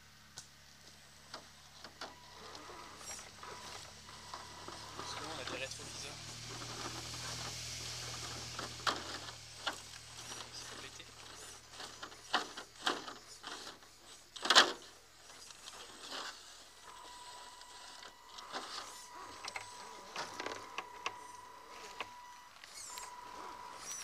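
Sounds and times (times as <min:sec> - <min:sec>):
clicks and knocks of rc crawler: 0:00.4 - 0:24.0
electric motor and gear whine: 0:00.4 - 0:24.0.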